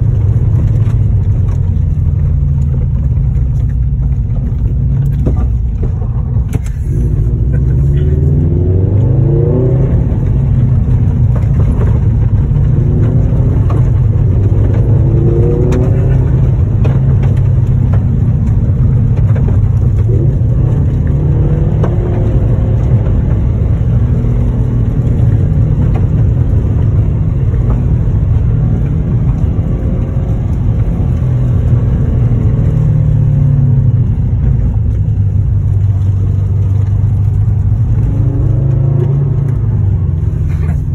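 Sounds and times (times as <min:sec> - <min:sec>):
car engine revving: 0:00.0 - 0:40.9
low road rumble: 0:00.0 - 0:40.9.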